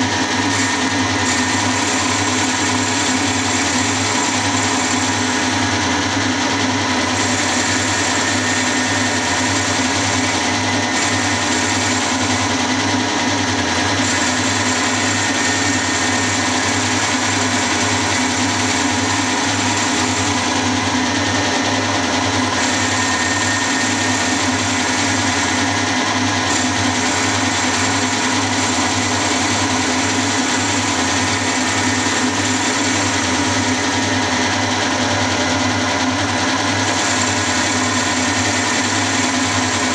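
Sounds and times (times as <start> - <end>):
milling machine drone: 0.0 - 39.9.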